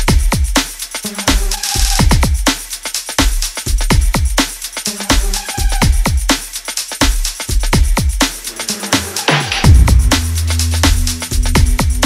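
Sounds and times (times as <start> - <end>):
drum and bass music: 0.0 - 12.0.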